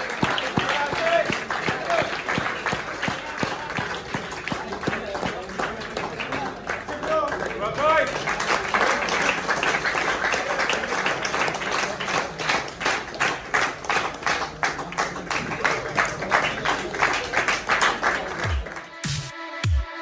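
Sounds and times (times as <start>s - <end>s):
small crowd applauding: 0.0s - 19.2s.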